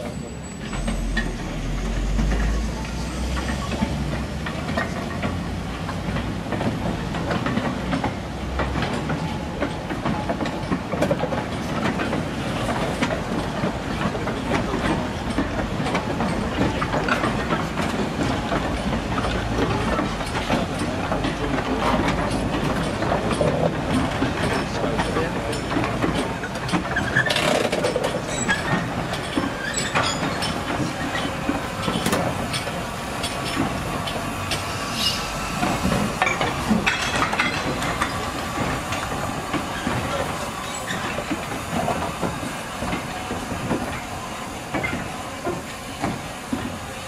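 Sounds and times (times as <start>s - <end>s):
steam train rumble: 0.0s - 47.0s
wheels clicking over rail joints: 0.5s - 47.0s.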